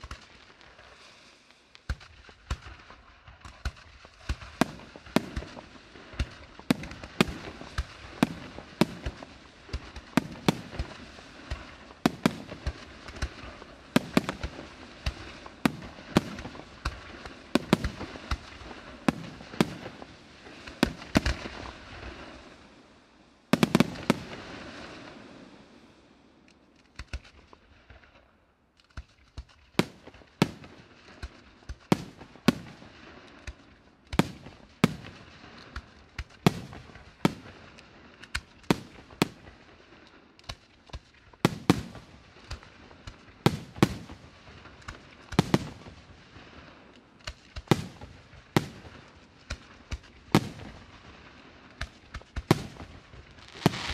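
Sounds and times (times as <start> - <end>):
firework bangs: 0.0 - 25.8, 28.9 - 53.9
firework crackling: 0.0 - 53.9.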